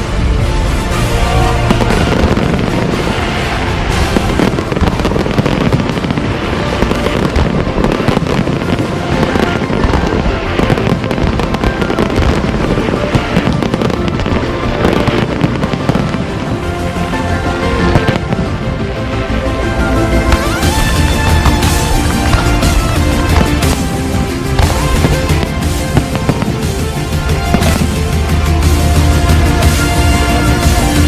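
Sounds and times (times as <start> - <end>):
fireworks crackling and banging: 0.0 - 19.2, 20.2 - 31.0
music playing: 0.0 - 31.0.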